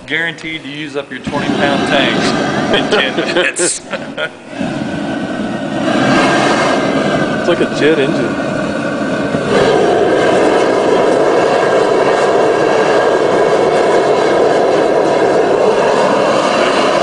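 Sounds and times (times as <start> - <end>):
gas heater burner roaring: 0.0 - 17.0.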